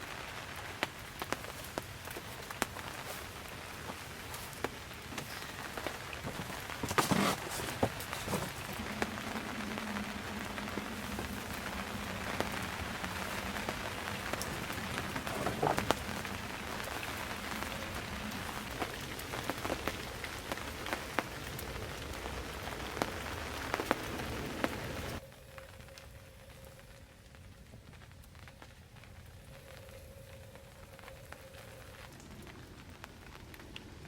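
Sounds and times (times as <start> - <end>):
fire crackling and hissing: 0.0 - 34.0.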